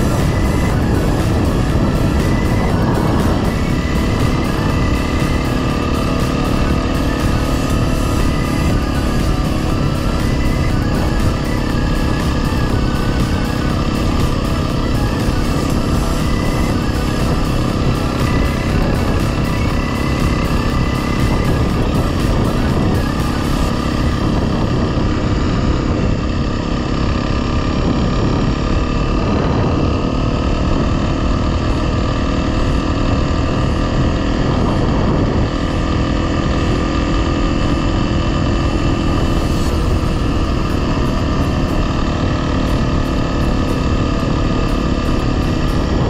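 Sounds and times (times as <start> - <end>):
motorcycle engine running: 0.0 - 46.0
wind noise: 0.0 - 46.0.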